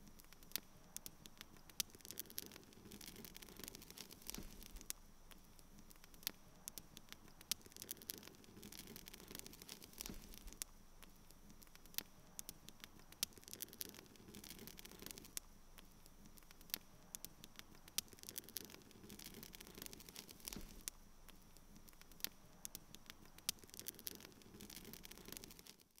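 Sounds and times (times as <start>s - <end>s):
irregular crackling clicks: 0.0s - 26.0s
low steady hiss: 0.0s - 26.0s.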